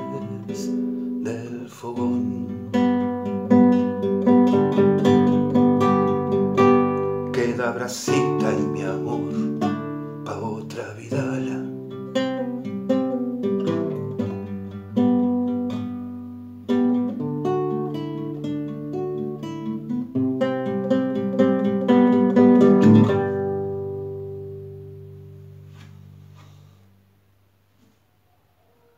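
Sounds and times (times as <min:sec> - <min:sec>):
classical guitar playing: 0:00.0 - 0:26.9.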